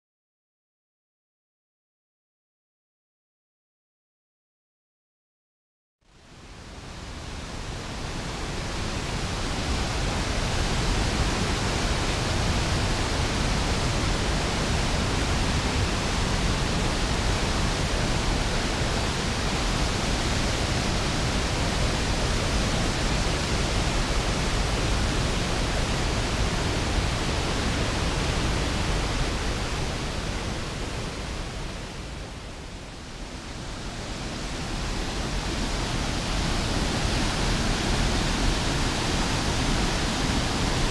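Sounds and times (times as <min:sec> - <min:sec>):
waterfall rushing: 0:07.3 - 0:40.9.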